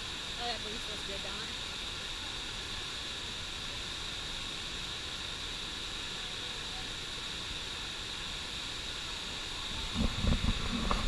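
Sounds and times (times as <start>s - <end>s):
waterfall rushing: 0.0s - 11.0s
whitewater rapids: 0.0s - 11.0s.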